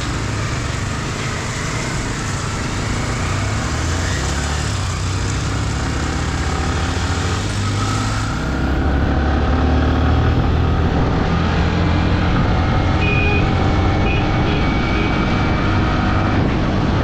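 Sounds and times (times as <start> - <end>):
motorcycle engine drone: 0.0 - 17.0
wind and road rush: 0.0 - 17.0.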